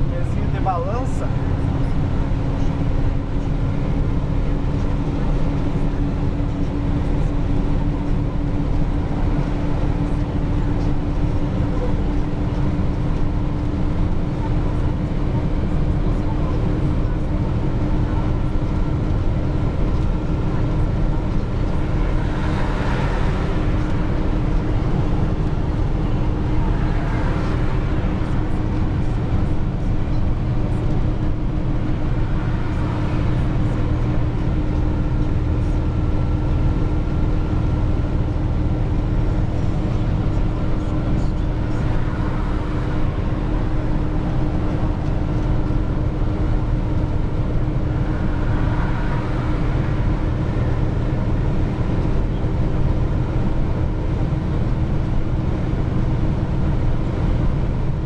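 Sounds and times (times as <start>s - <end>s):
dump truck engine drone: 0.0s - 58.0s.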